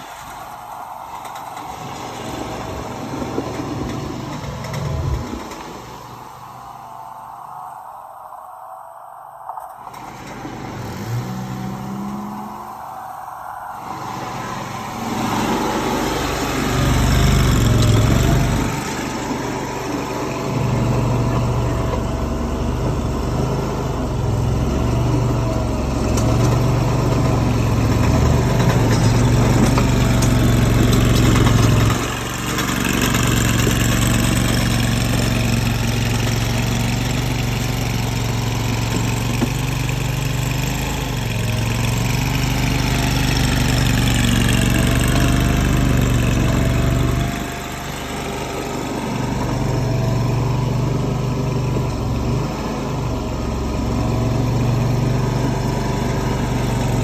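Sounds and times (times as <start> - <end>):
skid steer engine running: 0.0 - 8.8, 9.4 - 57.0.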